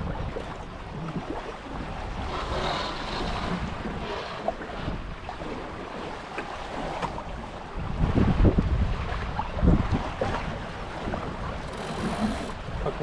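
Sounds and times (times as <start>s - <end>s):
water splashing along hulls: 0.0s - 13.0s
wind buffeting microphone: 0.0s - 13.0s.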